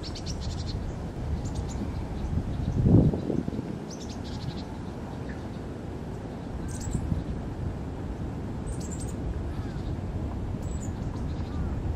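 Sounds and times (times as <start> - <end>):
faint gliding bird calls: 0.0 - 7.4, 8.6 - 11.9
sparrows chirping: 0.0 - 7.4, 8.6 - 10.0, 10.6 - 11.8.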